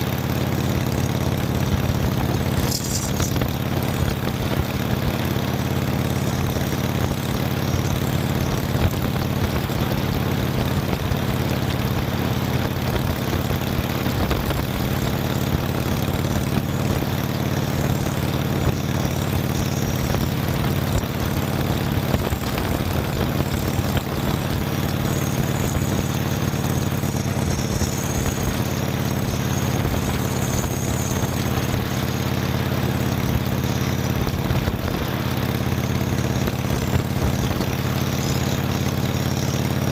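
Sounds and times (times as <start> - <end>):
motorcycle engine cruising: 0.0 - 39.9
wind and road noise: 1.4 - 38.6.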